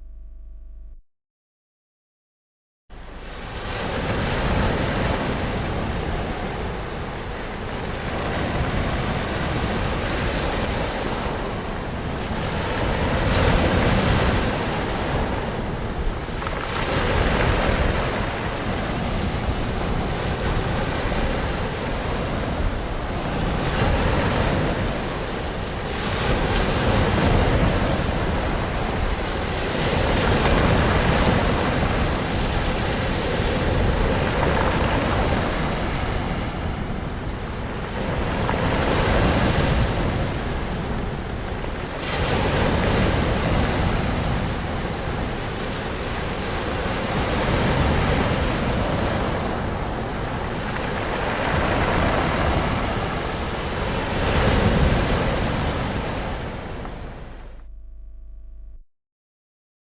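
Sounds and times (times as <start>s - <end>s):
waves breaking: 3.0s - 57.6s
wind on microphone: 3.0s - 58.4s.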